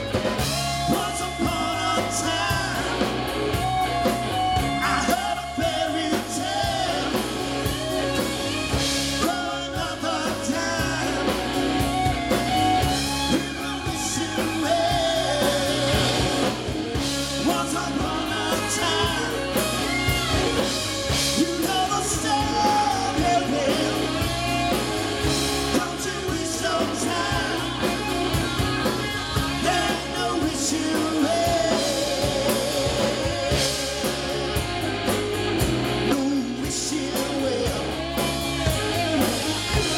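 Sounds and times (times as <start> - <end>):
drum kit beat: 0.0 - 39.9
electric and acoustic guitars: 0.0 - 39.9
keyboard: 0.0 - 39.9
person singing lead vocal: 0.0 - 39.9.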